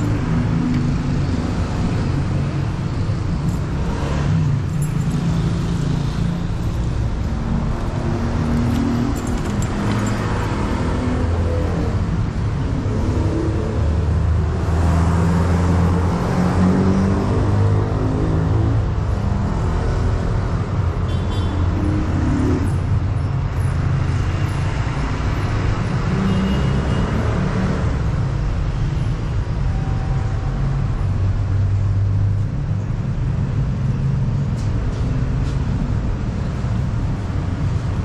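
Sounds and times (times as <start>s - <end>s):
road and traffic noise: 0.0s - 38.0s.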